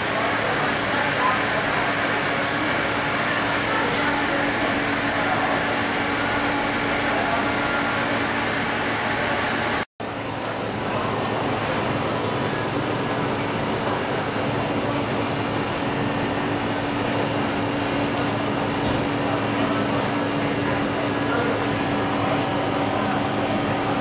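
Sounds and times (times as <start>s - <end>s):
refrigeration machinery hum: 0.0s - 24.0s.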